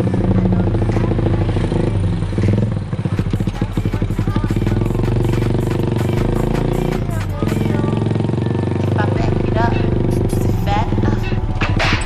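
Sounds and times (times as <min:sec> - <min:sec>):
motorcycle engine exhaust pulses: 0:00.0 - 0:12.0.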